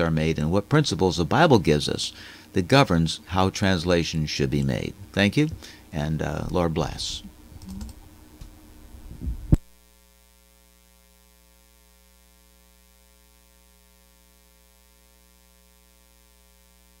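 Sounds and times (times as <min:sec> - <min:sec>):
faint electrical mains hum: 0:00.0 - 0:17.0.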